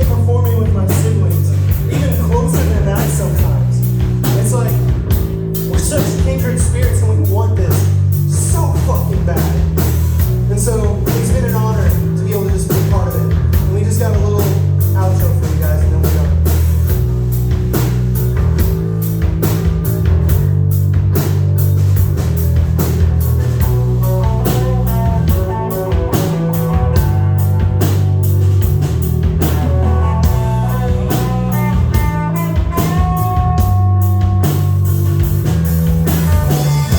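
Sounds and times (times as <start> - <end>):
drum kit beat: 0.0 - 36.9
live rock band playing: 0.0 - 36.9.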